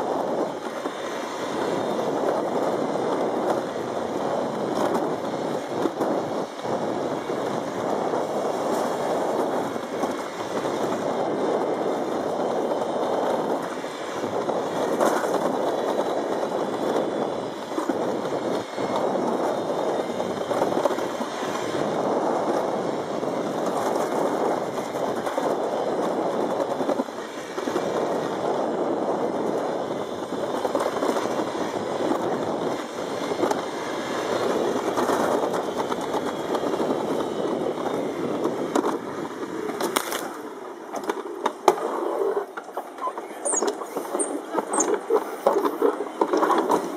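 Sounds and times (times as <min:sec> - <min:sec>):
sled rolling on metal track: 0:00.0 - 0:46.9.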